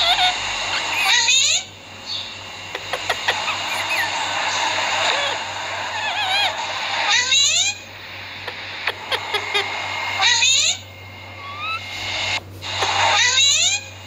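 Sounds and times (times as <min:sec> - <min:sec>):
parakeet screeching: 0:00.0 - 0:07.8, 0:08.4 - 0:14.0.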